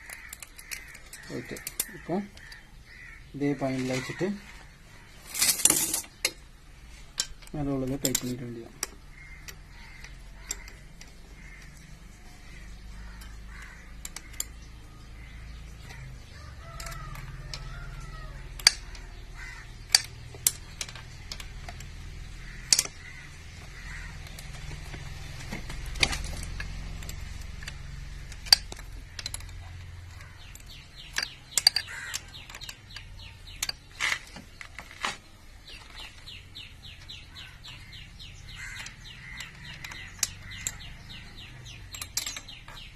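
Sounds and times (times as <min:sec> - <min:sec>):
metallic clicks of spanners: 0:00.0 - 0:02.7, 0:05.1 - 0:42.9
birds calling: 0:00.0 - 0:42.9.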